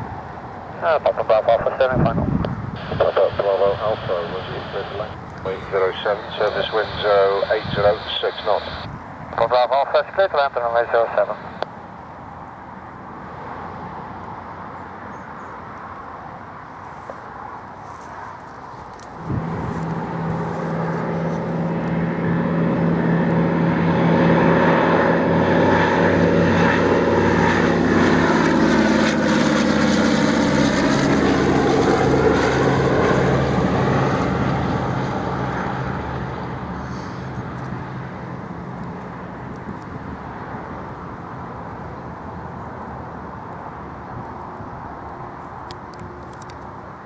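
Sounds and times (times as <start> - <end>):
propeller airliner engines passing: 0.0 - 47.0.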